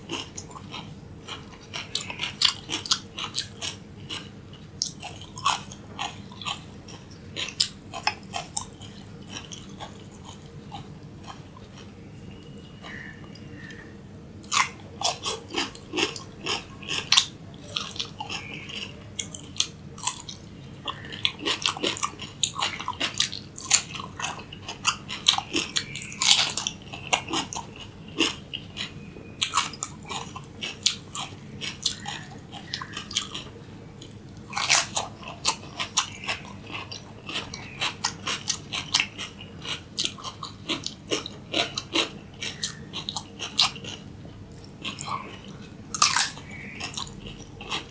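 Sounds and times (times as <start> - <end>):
person crunching cucumber: 0.0 - 13.8, 14.4 - 47.9.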